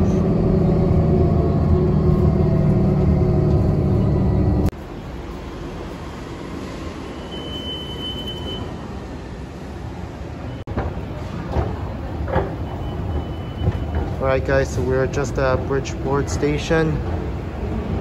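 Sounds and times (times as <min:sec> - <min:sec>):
transit vehicle rumble: 0:00.0 - 0:18.0.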